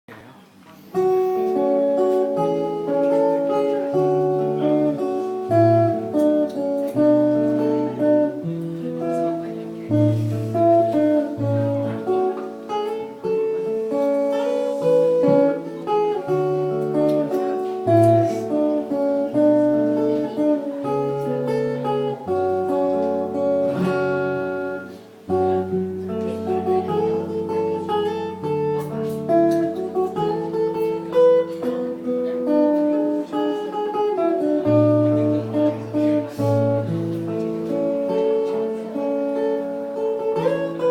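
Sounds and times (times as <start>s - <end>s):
fingerstyle acoustic guitar: 0.4s - 40.9s.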